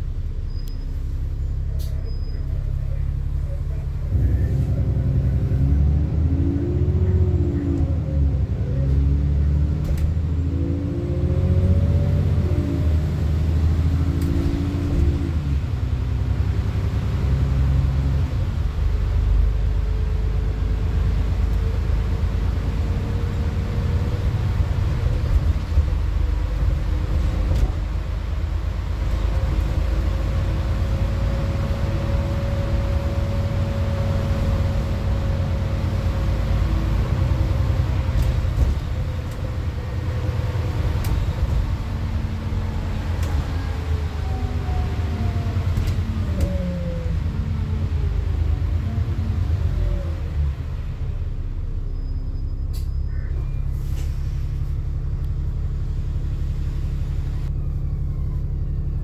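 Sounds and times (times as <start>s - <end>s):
bus diesel engine: 0.0s - 59.0s
road rumble: 0.0s - 59.0s.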